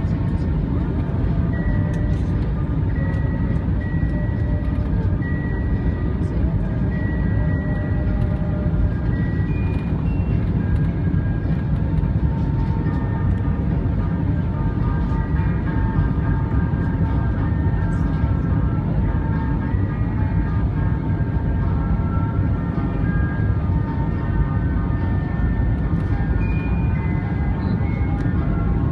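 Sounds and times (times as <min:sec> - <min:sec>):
jet engine cabin rumble: 0:00.0 - 0:28.9.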